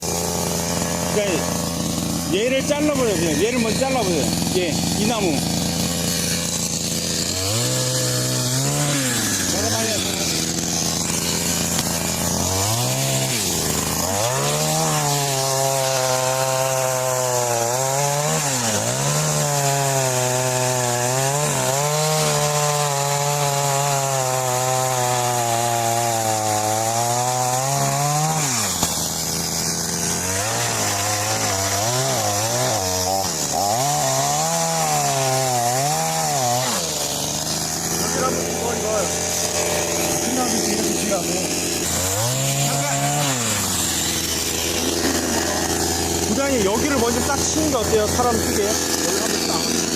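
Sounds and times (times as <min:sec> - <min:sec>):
chainsaw cutting into tree: 0:00.0 - 0:49.9.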